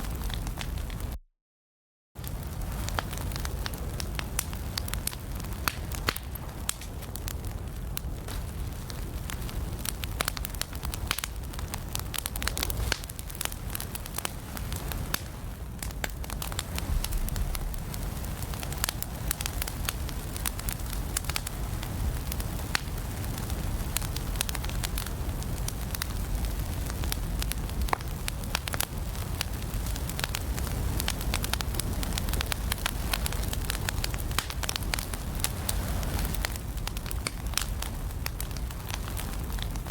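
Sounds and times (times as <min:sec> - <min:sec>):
low rumble of fire: 0:00.0 - 0:01.2, 0:02.2 - 0:39.9
wood fire crackling and popping: 0:00.0 - 0:01.2, 0:02.2 - 0:39.9.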